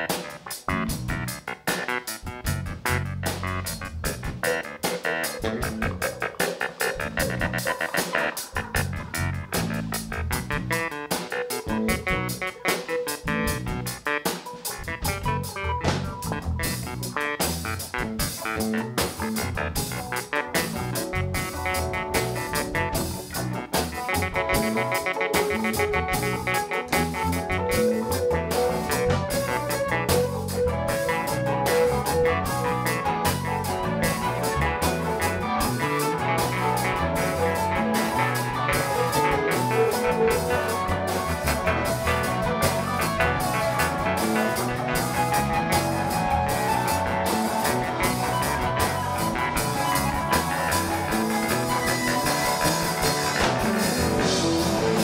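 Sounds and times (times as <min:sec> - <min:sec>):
drum kit beat: 0:00.0 - 0:55.0
electric guitars: 0:00.0 - 0:55.0
keyboards: 0:00.0 - 0:55.0.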